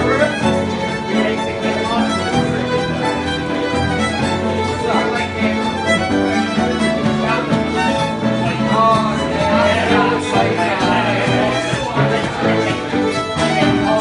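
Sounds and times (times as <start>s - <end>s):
acoustic guitar: 0.0s - 14.0s
fiddles playing folk tune: 0.0s - 14.0s
piano: 0.0s - 14.0s.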